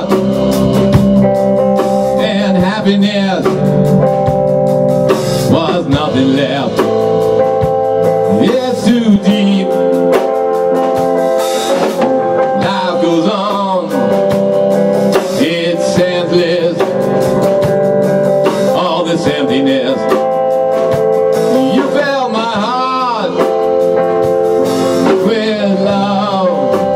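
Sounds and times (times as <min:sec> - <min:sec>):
man singing: 0:00.0 - 0:01.0, 0:02.0 - 0:04.4, 0:05.1 - 0:10.9, 0:12.0 - 0:17.8, 0:18.4 - 0:26.9
live band playing: 0:00.0 - 0:26.9.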